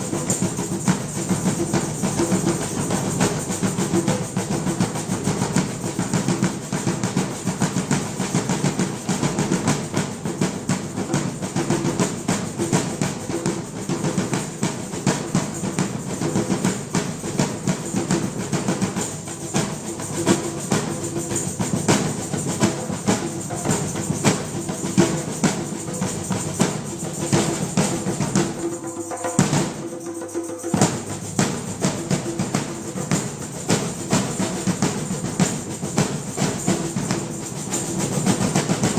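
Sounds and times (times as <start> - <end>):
drum ensemble playing fast: 0.0 - 38.9.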